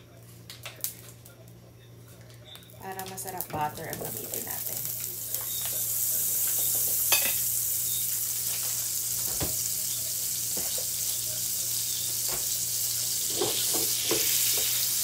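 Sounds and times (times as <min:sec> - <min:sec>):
butter sizzling in frying pan: 0:02.8 - 0:15.0.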